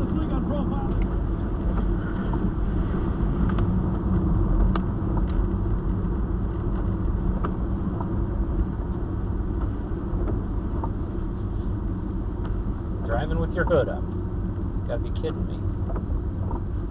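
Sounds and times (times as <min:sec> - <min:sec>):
car rumble on wet road: 0:00.0 - 0:16.9.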